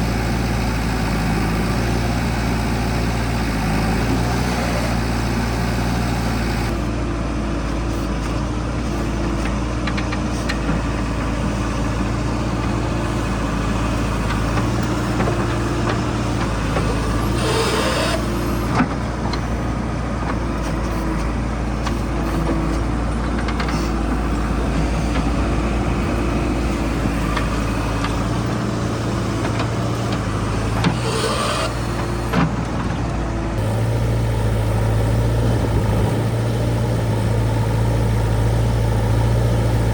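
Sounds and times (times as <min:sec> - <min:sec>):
diesel engine under varying load: 0:00.0 - 0:39.9.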